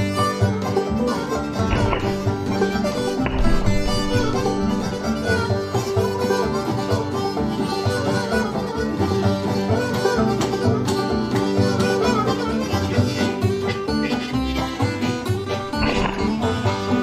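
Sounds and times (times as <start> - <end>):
banjo picking: 0.0 - 17.0
fiddle playing: 0.0 - 17.0
guitar picking: 0.0 - 17.0.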